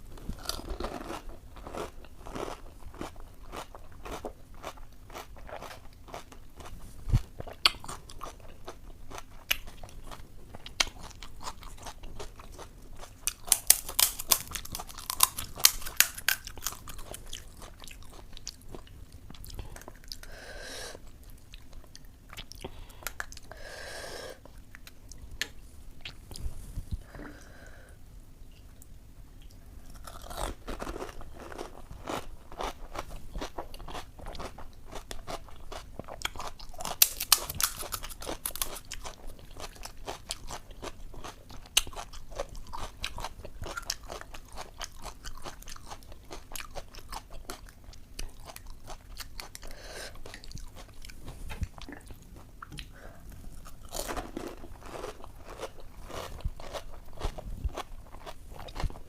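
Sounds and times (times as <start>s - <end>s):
crunching and chewing: 0.2s - 20.3s, 29.4s - 59.0s.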